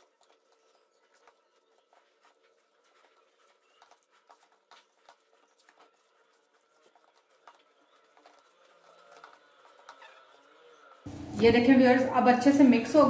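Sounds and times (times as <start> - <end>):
hand kneading minced meat: 0.0 - 11.0.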